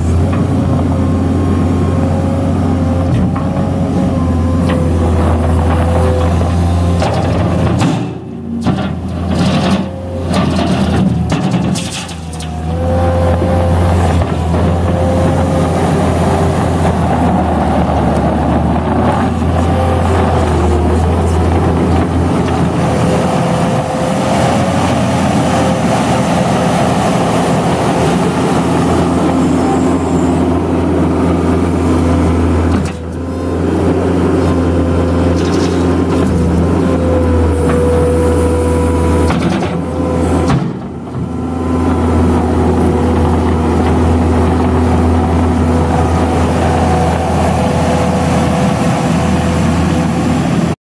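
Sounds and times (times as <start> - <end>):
diesel engine running: 0.0 - 50.8.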